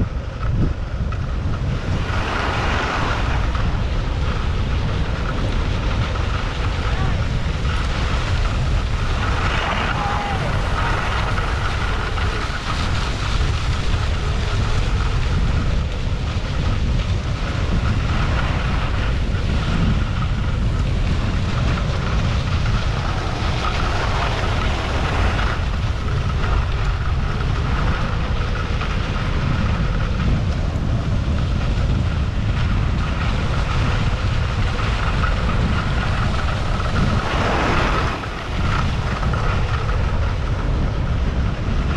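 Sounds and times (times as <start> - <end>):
wind buffeting microphone: 0.0 - 41.9
skis sliding on snow: 1.4 - 41.9.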